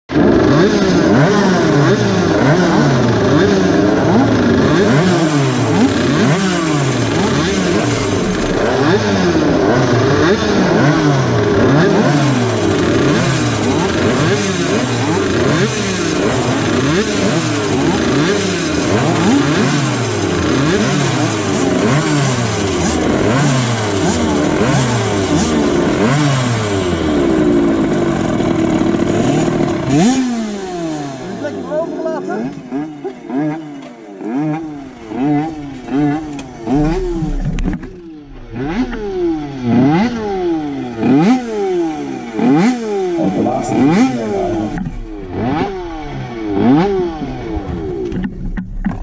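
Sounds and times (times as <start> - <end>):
motorcycle engines revving: 0.1 - 49.0.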